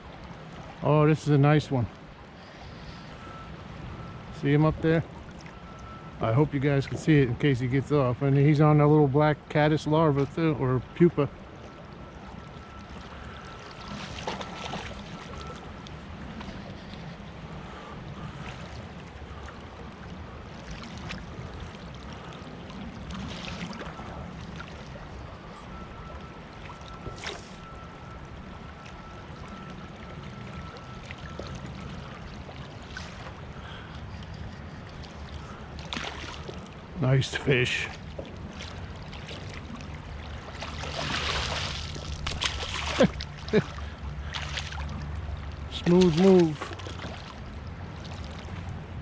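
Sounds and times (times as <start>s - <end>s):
stream water flowing: 0.0s - 49.0s.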